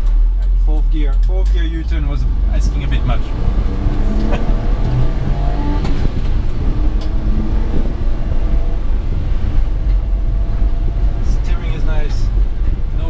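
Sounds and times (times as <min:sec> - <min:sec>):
road rumble: 0:00.0 - 0:13.0
truck engine running: 0:00.0 - 0:13.0.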